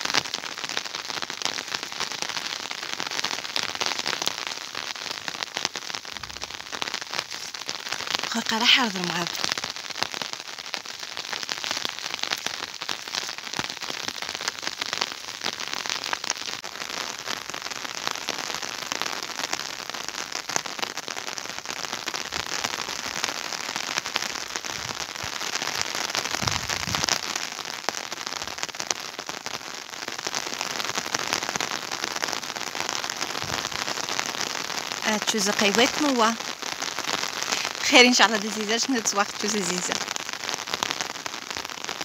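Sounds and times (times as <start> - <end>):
steady rain pattering: 0.0 - 42.0.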